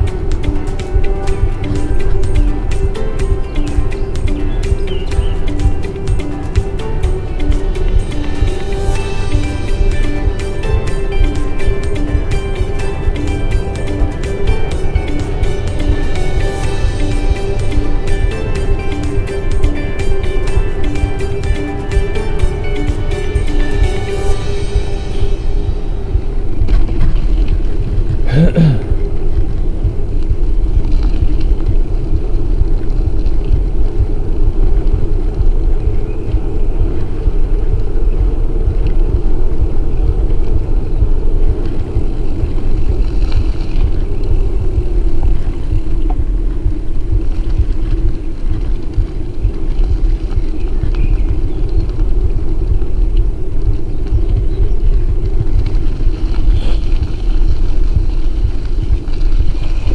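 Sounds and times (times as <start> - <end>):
bicycle tyre rumble: 0.0 - 59.9
wind buffeting microphone: 0.0 - 59.9.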